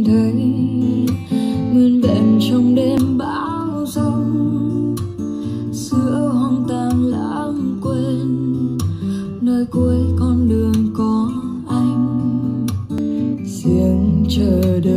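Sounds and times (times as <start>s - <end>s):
guitar music from a speaker: 0.0s - 14.9s.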